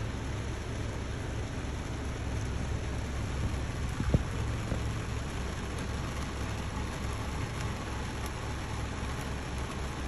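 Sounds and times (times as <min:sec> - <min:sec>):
heavy rain on car roof: 0:00.0 - 0:10.0.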